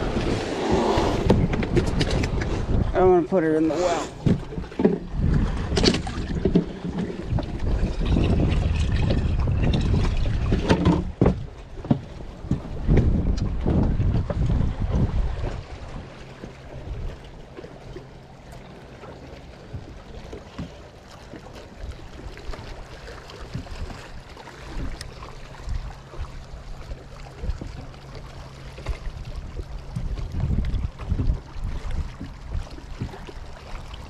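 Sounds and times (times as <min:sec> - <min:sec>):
waves lapping against boat hull: 0:00.0 - 0:34.0.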